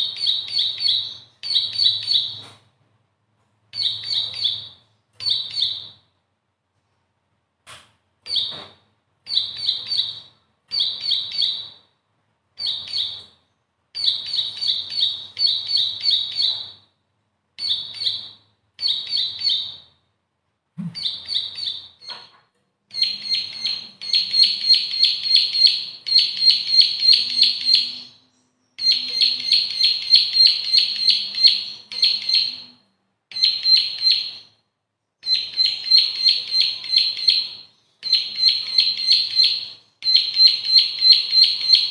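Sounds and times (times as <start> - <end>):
bird chirping rapidly: 0.0 - 2.6, 3.7 - 6.1, 8.2 - 8.7, 9.3 - 11.9, 12.6 - 13.4, 14.0 - 16.9, 17.6 - 20.0, 20.8 - 22.3, 22.9 - 34.5, 35.2 - 41.9.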